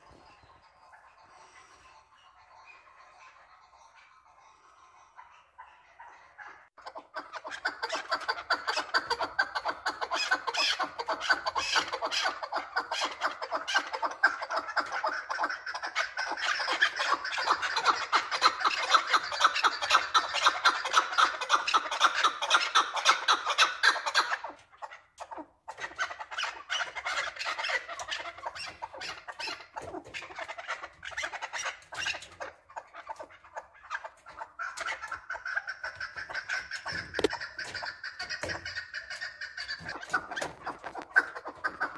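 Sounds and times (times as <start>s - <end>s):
partridge calling: 0.0s - 41.9s.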